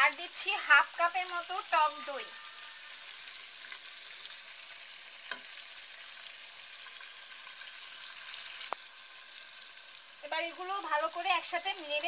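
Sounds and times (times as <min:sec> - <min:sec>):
meat frying in oil: 0:00.0 - 0:12.0.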